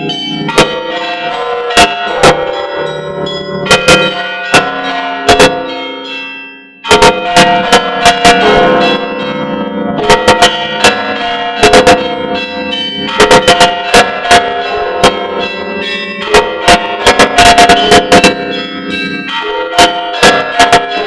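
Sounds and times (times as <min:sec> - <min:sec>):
heavier bells ringing: 0:00.0 - 0:21.0.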